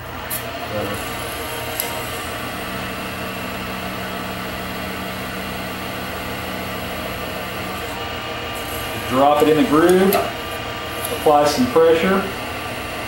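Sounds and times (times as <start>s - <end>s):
wood lathe motor humming: 0.0s - 13.0s.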